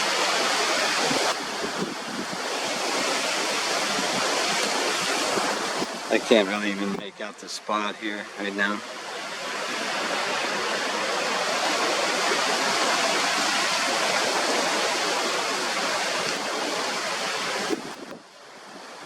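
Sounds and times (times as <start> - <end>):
wind blowing on microphone: 0.0 - 19.0.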